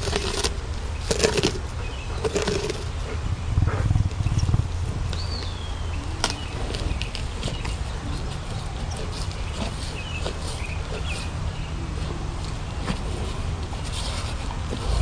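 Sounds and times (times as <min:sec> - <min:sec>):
big cat eating rough bursts: 0:00.0 - 0:15.0
steady low rumble: 0:00.0 - 0:15.0.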